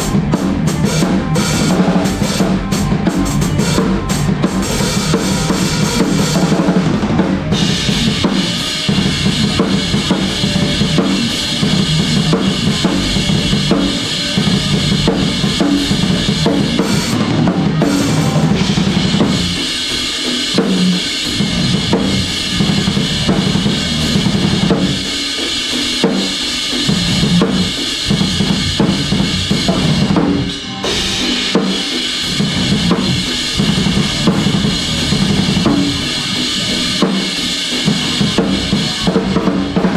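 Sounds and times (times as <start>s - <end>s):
cymbals: 0.0s - 39.9s.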